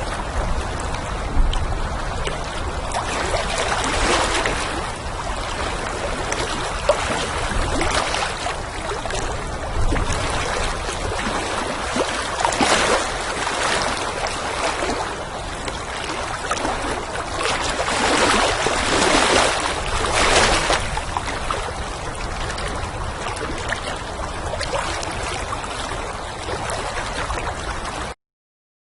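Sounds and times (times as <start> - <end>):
wind blowing: 0.0 - 26.4
water lapping in small waves: 0.0 - 28.2.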